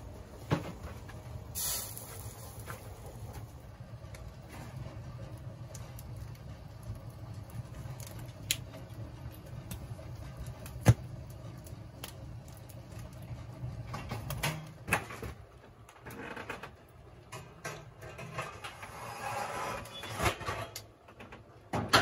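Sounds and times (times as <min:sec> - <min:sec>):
fire crackling: 0:00.0 - 0:20.1
wood fire burning in stove: 0:00.0 - 0:22.0.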